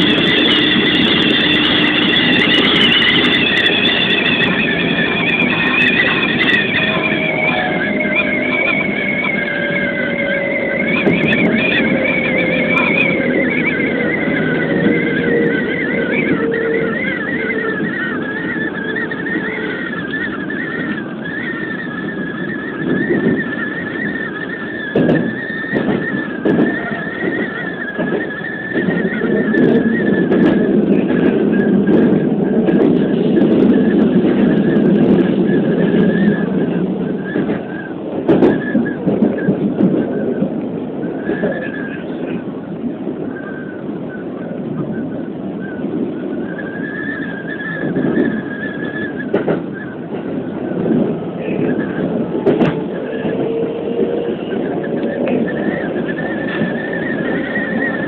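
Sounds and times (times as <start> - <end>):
train wheels and wind rumbling: 0.0 - 58.0.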